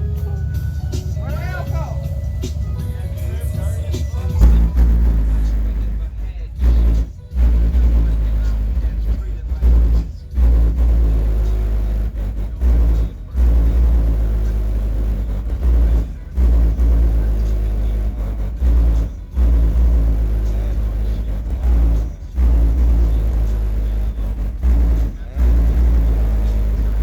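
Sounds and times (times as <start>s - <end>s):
bass-heavy rap music: 0.0s - 27.0s.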